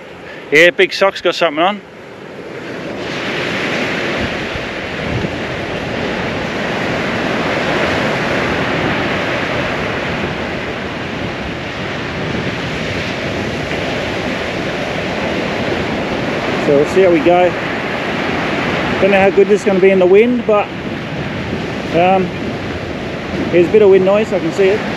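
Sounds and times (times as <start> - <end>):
surf breaking on beach: 0.0 - 24.9
wind buffeting microphone: 1.7 - 24.9.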